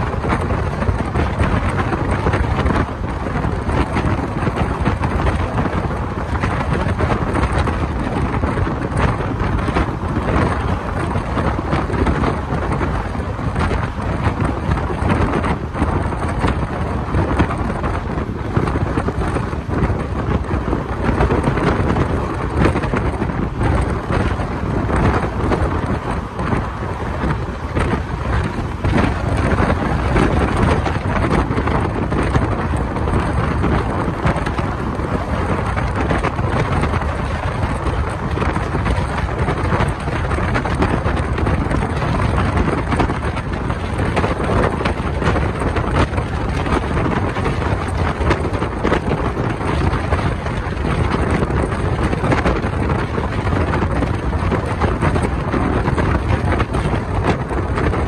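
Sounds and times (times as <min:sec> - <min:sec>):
train wheels on rails: 0:00.0 - 0:58.0
wind buffeting microphone: 0:00.0 - 0:58.0.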